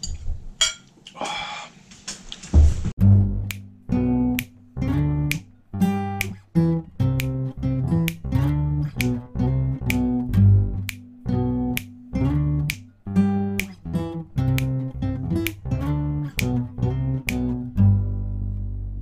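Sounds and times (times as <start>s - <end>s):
guitar strumming chords: 3.0s - 19.0s.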